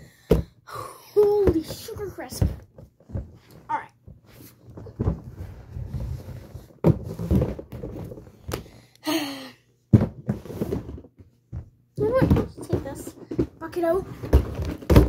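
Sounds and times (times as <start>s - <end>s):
plastic bin knocks and thumps: 0.2s - 0.6s, 1.2s - 3.5s, 4.1s - 8.7s, 9.9s - 15.0s.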